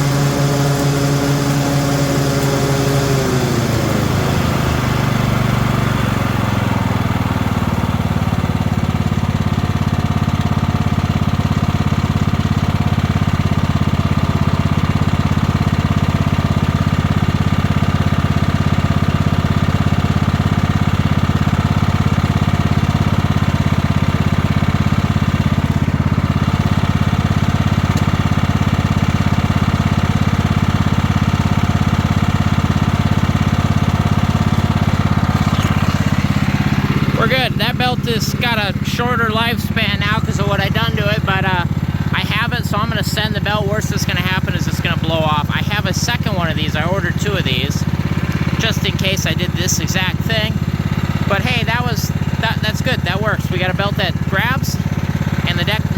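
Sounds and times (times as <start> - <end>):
riding lawn mower engine running: 0.0 - 55.9.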